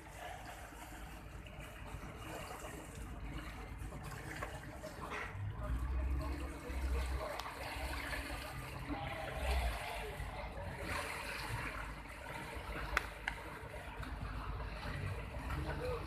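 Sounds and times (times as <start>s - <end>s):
low engine rumble: 0.0s - 16.0s
water splashing along boat hull: 0.0s - 16.0s.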